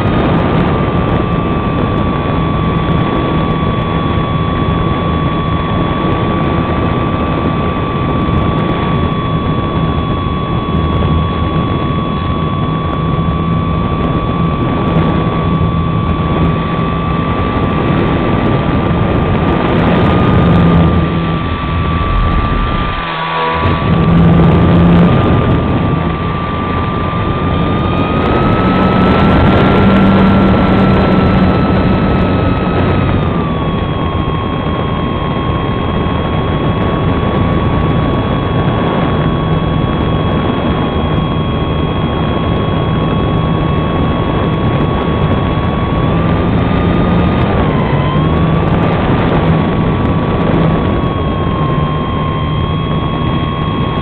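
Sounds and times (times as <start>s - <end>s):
electric motor whine: 0.0s - 54.0s
rushing air noise: 0.0s - 54.0s.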